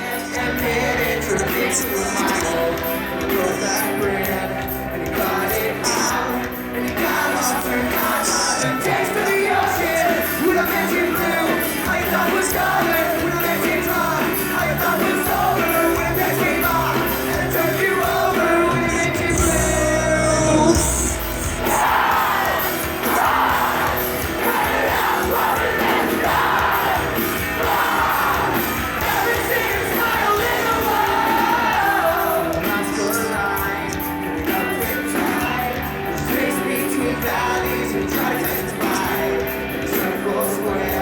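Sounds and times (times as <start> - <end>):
crowd yelling along: 0.0 - 41.0
person singing loudly: 0.0 - 41.0
rock band playing live: 0.0 - 41.0.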